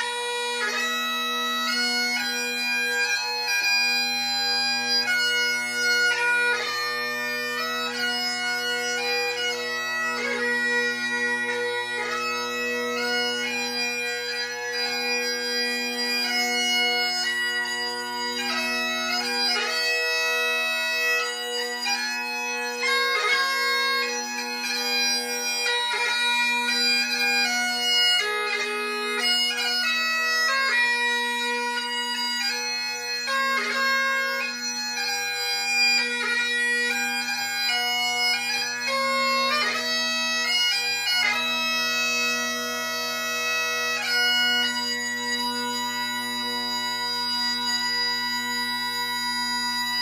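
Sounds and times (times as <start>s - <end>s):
bagpipe chanter melody: 0.0s - 50.0s
bagpipe drones humming: 0.0s - 50.0s.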